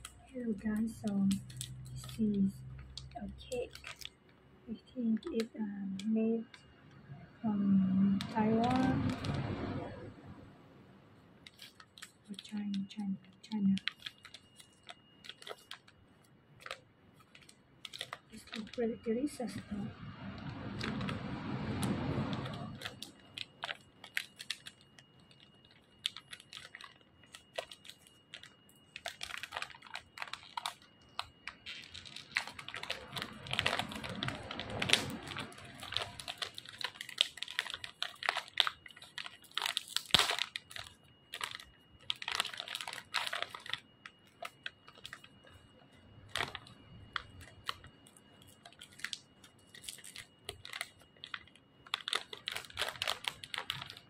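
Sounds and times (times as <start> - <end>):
plastic bag crinkling: 0.0 - 10.1, 11.4 - 54.0.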